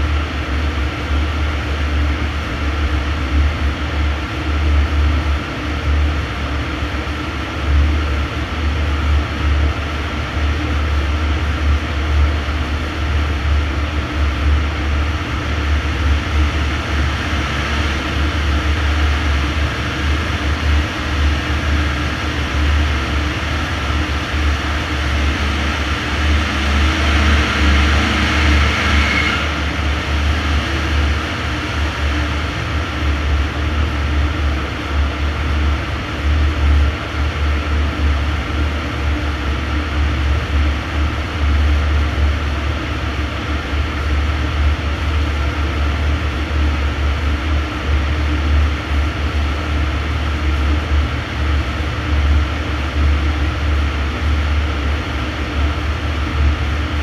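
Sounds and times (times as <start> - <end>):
cooling fan rushing air: 0.0 - 57.0
diesel engine drone: 0.0 - 57.0.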